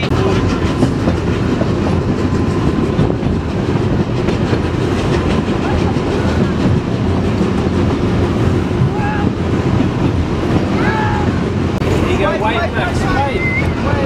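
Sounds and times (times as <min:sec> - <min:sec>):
train coaches rumbling on track: 0:00.0 - 0:14.0.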